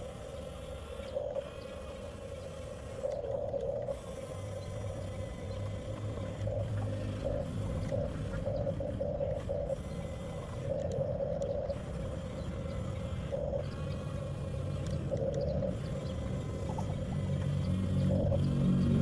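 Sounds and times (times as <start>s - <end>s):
toy bulldozer motor whining: 0.0s - 19.0s.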